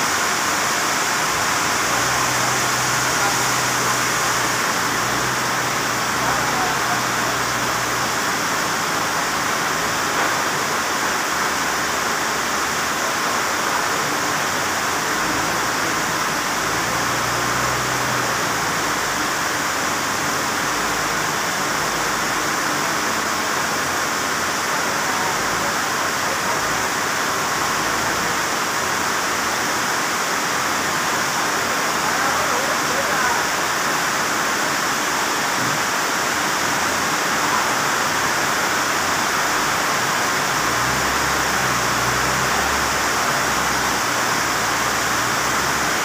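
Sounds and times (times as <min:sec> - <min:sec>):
rain on a metal roof: 0:00.0 - 0:46.0.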